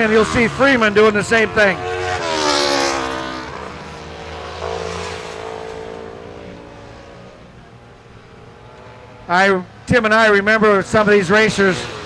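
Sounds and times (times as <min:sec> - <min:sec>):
racing motorcycles revving past: 0:00.0 - 0:12.0.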